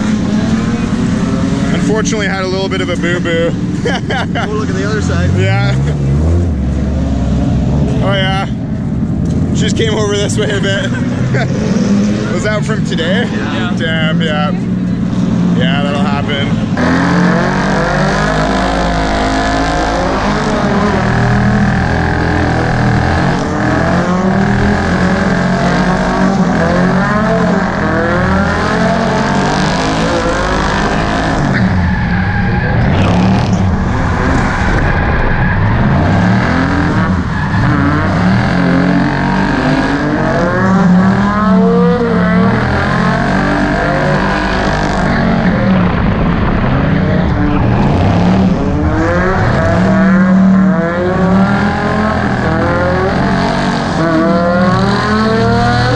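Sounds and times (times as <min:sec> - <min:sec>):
car engine revving: 0:00.0 - 0:55.9
steady engine hum: 0:00.0 - 0:55.9.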